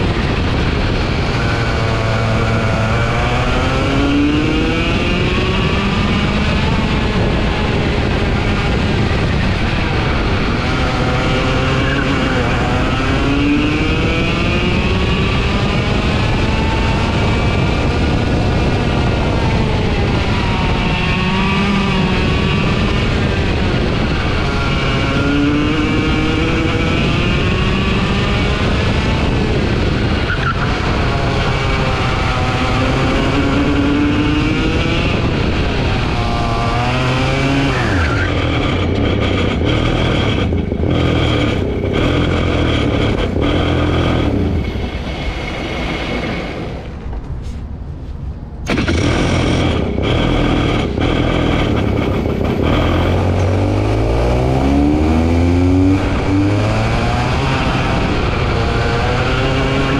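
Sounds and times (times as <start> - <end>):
go-kart engine revving: 0.0 - 47.1, 48.6 - 59.9.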